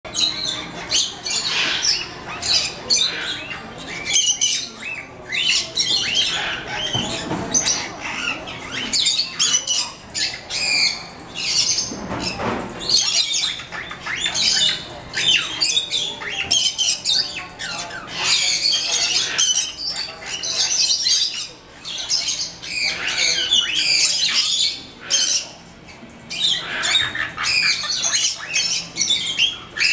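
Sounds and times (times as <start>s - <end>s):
parrots chirping and squawking: 0.1s - 29.9s.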